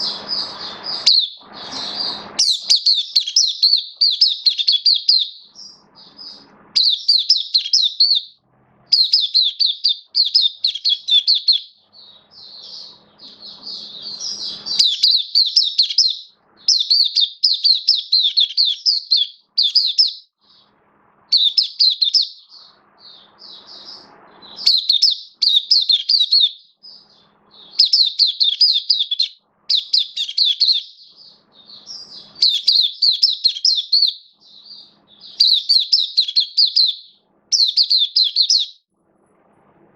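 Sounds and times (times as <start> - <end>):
bird twittering song: 0.0 - 38.8.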